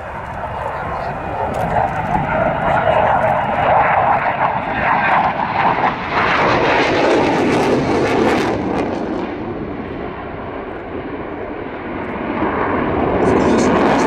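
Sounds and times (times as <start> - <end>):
jet engine in afterburner: 0.0 - 14.0.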